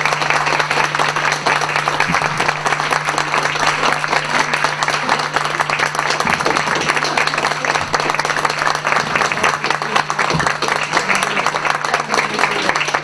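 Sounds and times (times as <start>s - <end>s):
low hum: 0.0s - 11.4s
audience applauding: 0.0s - 13.0s.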